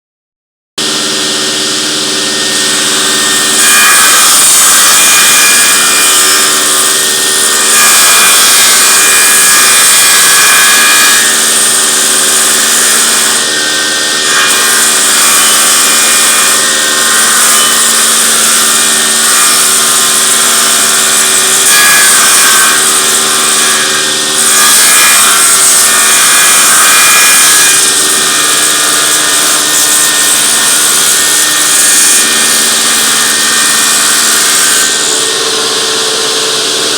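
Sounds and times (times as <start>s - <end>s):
electric saw cutting wood: 0.8s - 36.9s.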